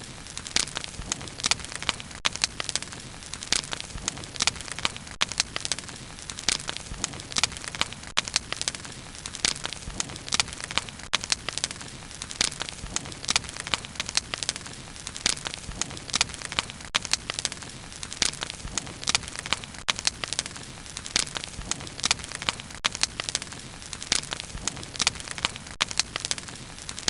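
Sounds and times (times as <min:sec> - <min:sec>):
bonfire crackling: 0:00.0 - 0:27.0.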